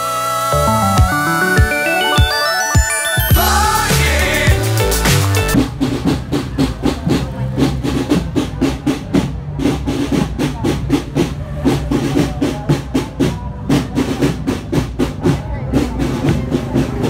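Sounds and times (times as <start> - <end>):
bass drums beating: 0.6 - 17.0.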